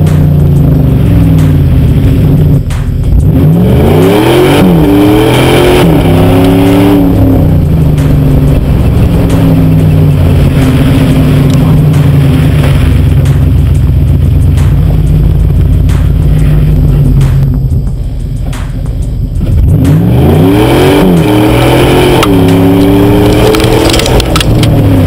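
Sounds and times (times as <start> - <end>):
car engine revving through exhaust: 0.0 - 25.0.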